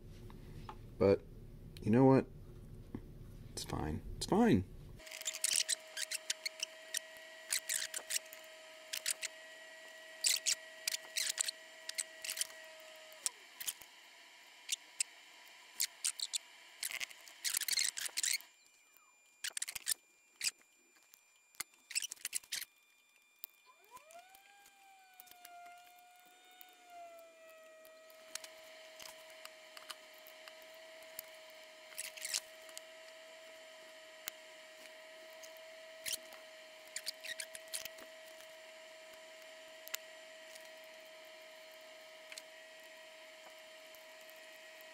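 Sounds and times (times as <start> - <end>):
faint steady whine: 0.0 - 44.9.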